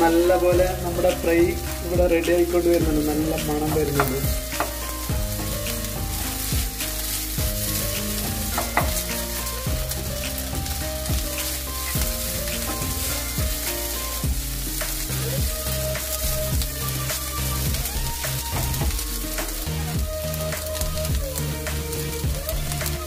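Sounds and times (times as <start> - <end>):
beef sizzling in a pan: 0.0 - 23.0
wooden spatula scraping pan: 0.0 - 23.0.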